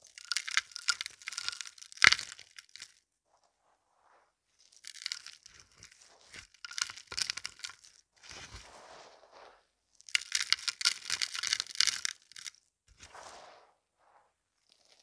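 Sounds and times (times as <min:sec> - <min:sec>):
debris crunching and crackling: 0:00.0 - 0:13.8.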